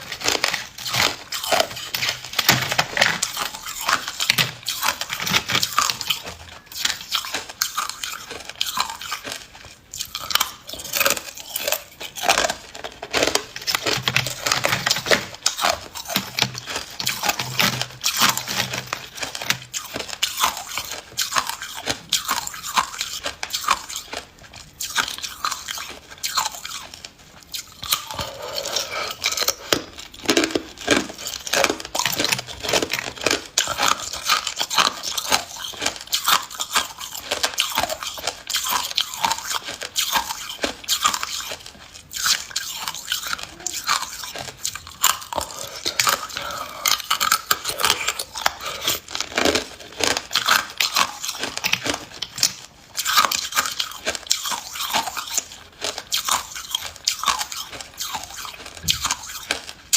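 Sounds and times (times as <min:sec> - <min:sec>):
person chewing ice: 0:00.0 - 0:59.9.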